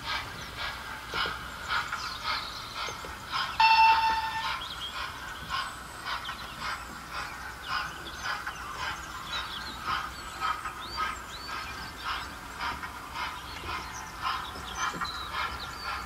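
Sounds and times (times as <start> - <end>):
steam locomotive chuffs: 0.0 - 16.0.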